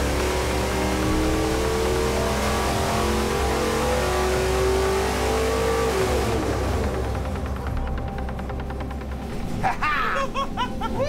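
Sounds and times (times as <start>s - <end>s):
engine revving at full power: 0.0s - 9.2s.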